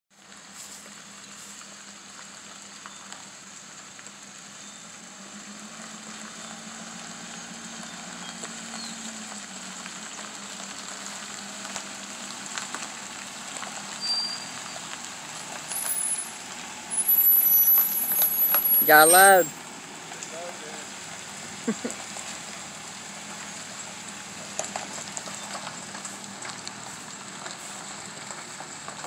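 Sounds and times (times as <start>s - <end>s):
truck engine running: 0.2s - 29.0s
tyres crunching on gravel: 0.2s - 29.0s.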